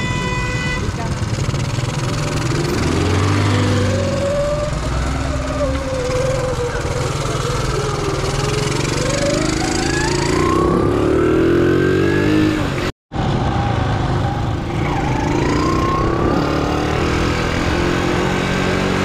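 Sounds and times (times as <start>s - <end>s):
small motorcycle engine accelerating: 1.2s - 12.4s, 14.5s - 19.0s.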